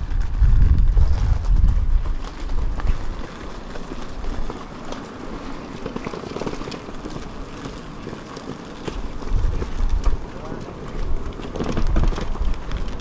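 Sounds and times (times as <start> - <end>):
footsteps on paved path: 0.0 - 13.0
outdoor hum: 0.0 - 13.0.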